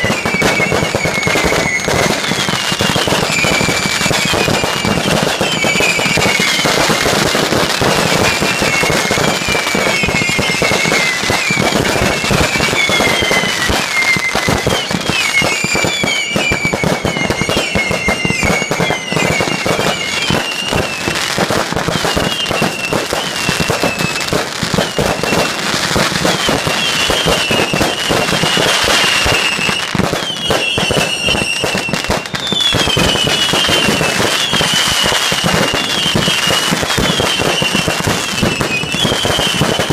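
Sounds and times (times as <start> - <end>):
fireworks bangs and crackling: 0.0 - 39.9
fireworks whistling: 0.0 - 39.9.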